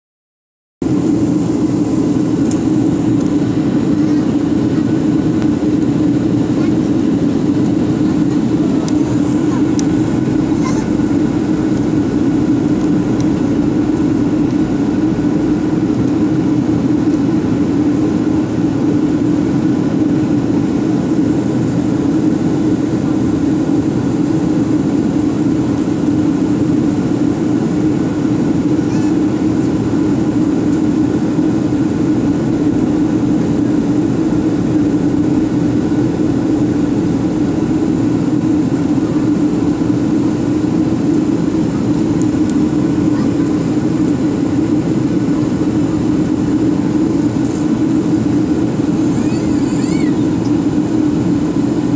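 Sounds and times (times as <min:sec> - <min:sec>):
airliner cabin engine drone: 0:00.8 - 0:51.9.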